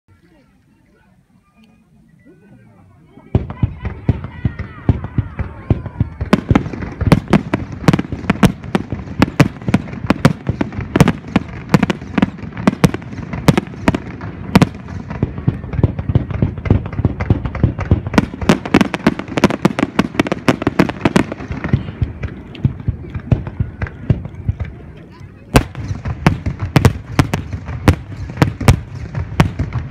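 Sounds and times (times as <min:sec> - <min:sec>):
fireworks bursting: 0:03.3 - 0:29.9.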